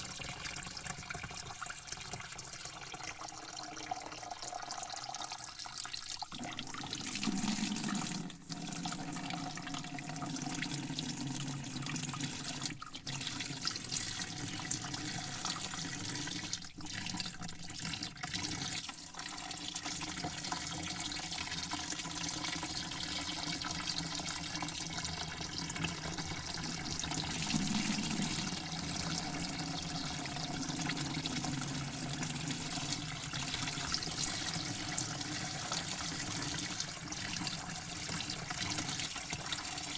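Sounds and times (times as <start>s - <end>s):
water running in a stream: 0.0s - 39.9s.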